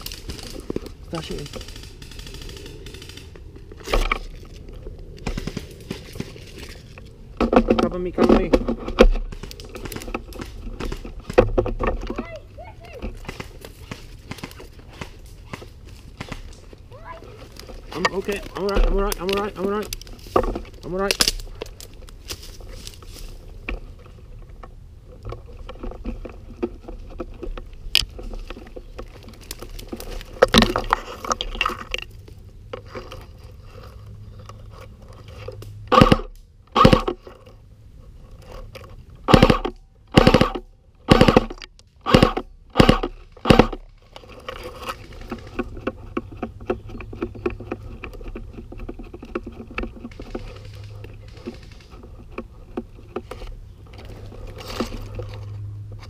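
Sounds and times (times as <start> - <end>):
rustling through dry undergrowth: 0.0 - 56.0.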